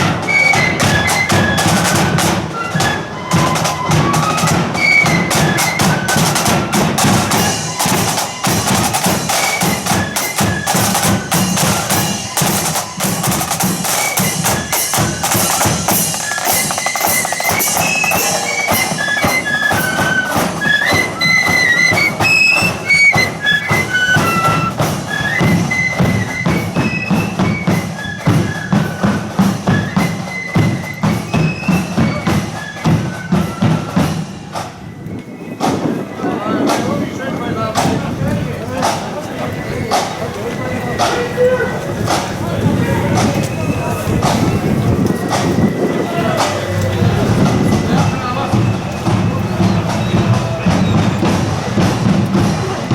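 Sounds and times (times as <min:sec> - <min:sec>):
flutes playing high melody: 0:00.0 - 0:36.6, 0:39.7 - 0:52.9
side drums and bass drum: 0:00.0 - 0:52.9.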